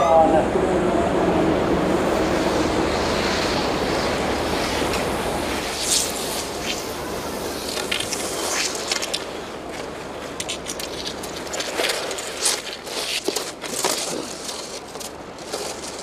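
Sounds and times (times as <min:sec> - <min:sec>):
rushing outdoor noise: 0:00.0 - 0:16.0
skis and poles scraping snow: 0:02.2 - 0:16.0.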